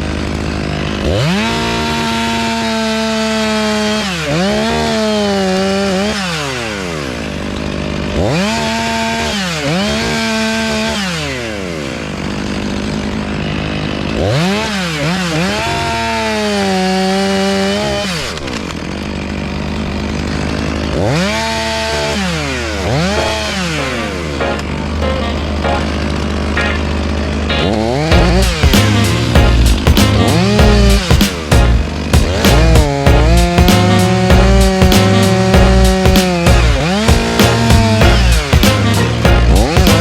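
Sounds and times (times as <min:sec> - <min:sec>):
chainsaw engine revving: 0:00.0 - 0:40.0.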